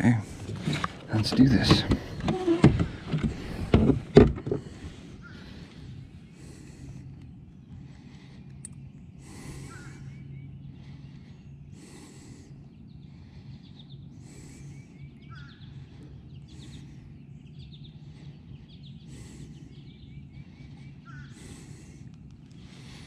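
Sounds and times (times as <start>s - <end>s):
low steady hum: 0.0s - 23.0s
small birds chirping: 0.0s - 23.0s.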